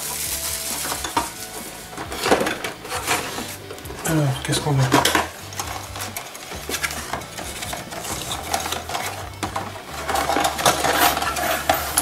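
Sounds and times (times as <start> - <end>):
plastic and paper rustling: 0.0 - 12.0.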